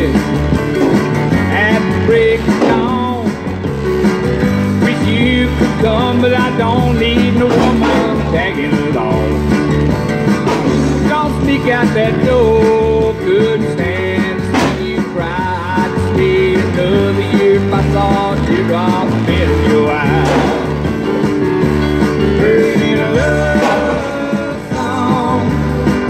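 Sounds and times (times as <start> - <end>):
song with vocals and guitar: 0.0 - 26.0
steady bass beat: 0.0 - 26.0.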